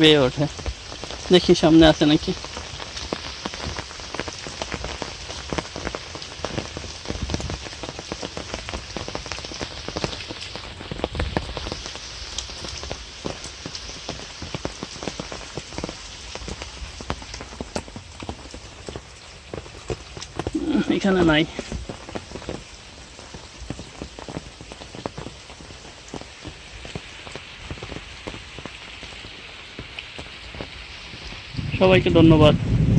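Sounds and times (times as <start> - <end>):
light rain patter: 0.0 - 32.9.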